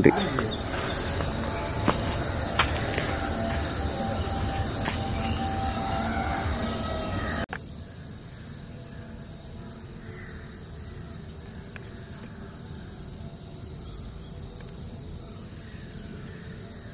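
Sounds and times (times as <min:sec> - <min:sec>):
insects chirring: 0:00.0 - 0:16.9.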